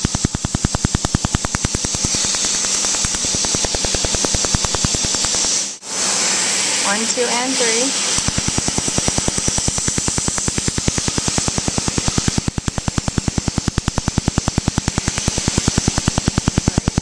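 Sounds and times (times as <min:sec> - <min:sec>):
laser snapping pulses: 0:00.0 - 0:05.8, 0:08.1 - 0:17.0
air hiss from hose: 0:00.0 - 0:17.0.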